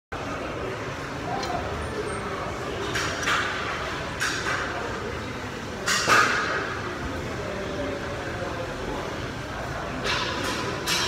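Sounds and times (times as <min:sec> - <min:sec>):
gym hall background noise: 0:00.1 - 0:11.0.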